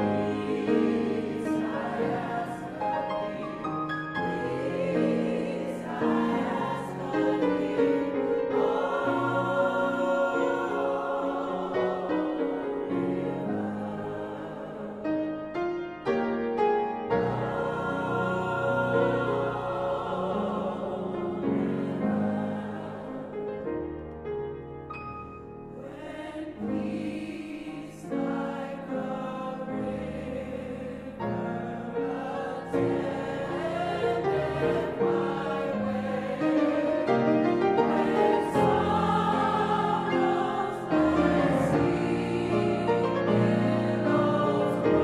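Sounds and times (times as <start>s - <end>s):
mixed chorus singing: 0.0s - 15.5s, 16.7s - 23.7s, 25.8s - 45.0s
piano accompaniment: 0.0s - 45.0s.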